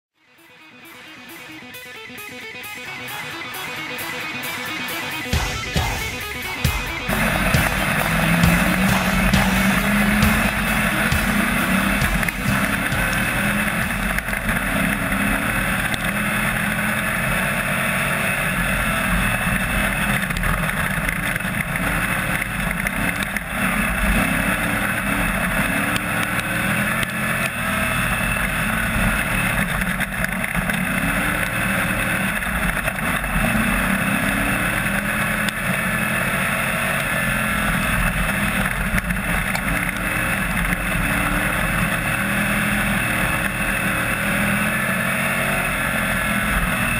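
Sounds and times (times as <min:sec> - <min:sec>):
race car engine revving: 0:01.2 - 0:46.9.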